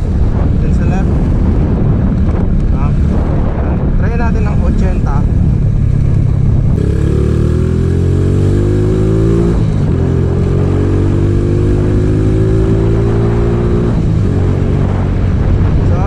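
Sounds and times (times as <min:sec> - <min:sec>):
motorcycle engine accelerating: 0:00.0 - 0:16.0
wind buffeting on microphone: 0:00.0 - 0:16.0.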